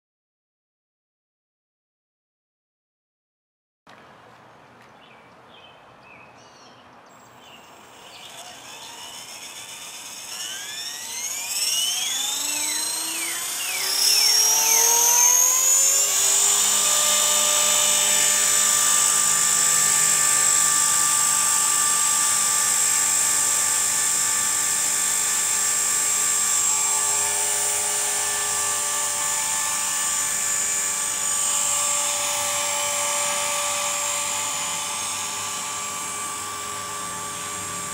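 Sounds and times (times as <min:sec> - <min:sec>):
rc helicopter rotor whine: 0:07.1 - 0:37.9.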